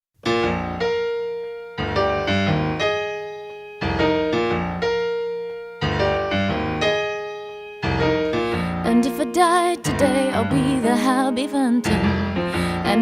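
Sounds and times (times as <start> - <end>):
piano chords and bass notes: 0.2 - 13.0.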